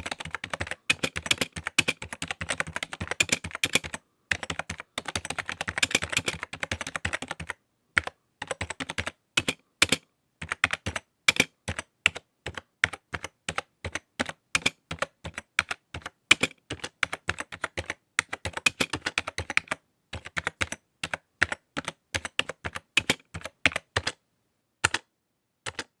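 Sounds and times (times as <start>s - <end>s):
typing on keyboard: 0.0s - 24.2s, 24.8s - 26.0s.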